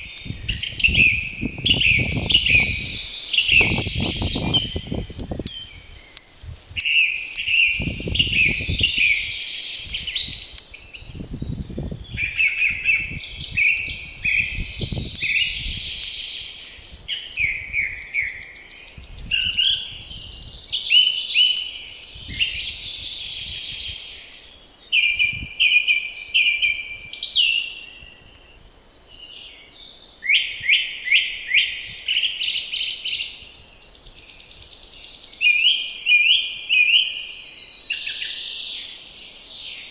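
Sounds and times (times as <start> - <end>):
wind rumbling on microphone: 0.0 - 37.1
songbirds singing: 0.0 - 39.9.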